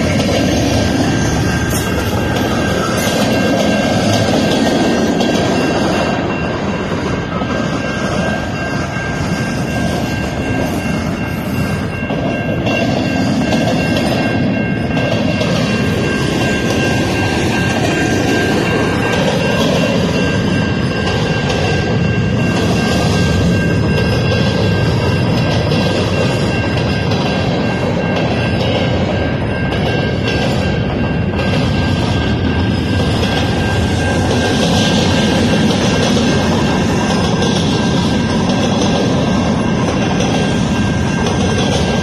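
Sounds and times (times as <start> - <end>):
freight train cars rumbling: 0.0 - 42.0
steady high tones: 0.0 - 42.0.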